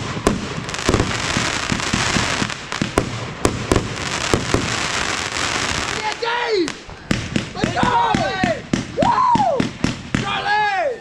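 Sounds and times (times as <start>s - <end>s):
fireworks bangs: 0.0s - 10.7s
fireworks crackling: 0.0s - 10.7s.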